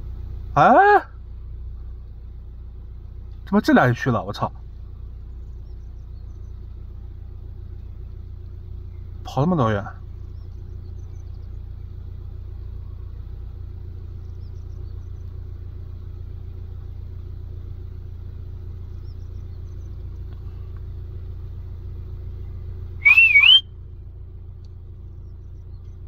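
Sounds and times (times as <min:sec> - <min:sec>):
low motor rumble: 0:00.0 - 0:26.0.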